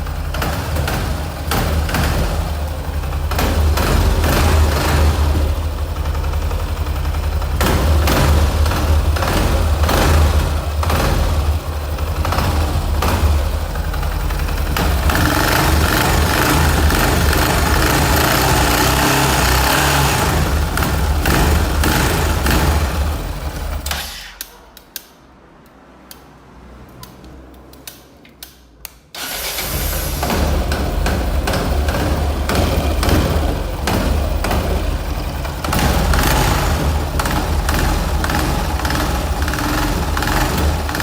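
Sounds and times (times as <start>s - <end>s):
motorcycle engine running: 0.0s - 24.0s, 29.4s - 41.0s.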